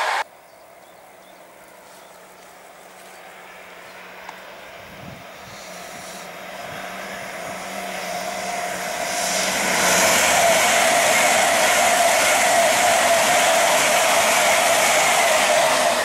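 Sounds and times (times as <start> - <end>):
train whine: 0.0 - 0.3, 1.0 - 16.0
trains passing at speed: 0.0 - 0.3, 1.0 - 16.0.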